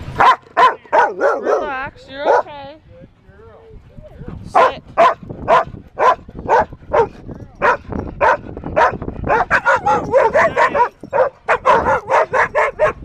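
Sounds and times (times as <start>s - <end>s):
dogs barking: 0.2s - 2.6s, 4.5s - 13.0s.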